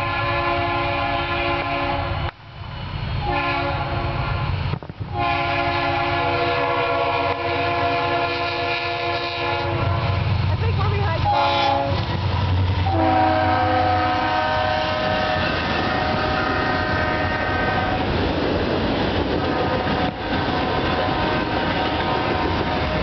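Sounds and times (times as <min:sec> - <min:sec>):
locomotive air horn chord: 0:00.0 - 0:02.3, 0:03.2 - 0:10.3, 0:11.2 - 0:12.0, 0:12.8 - 0:18.1, 0:19.5 - 0:23.0
train rumble and wheel noise: 0:00.0 - 0:23.0.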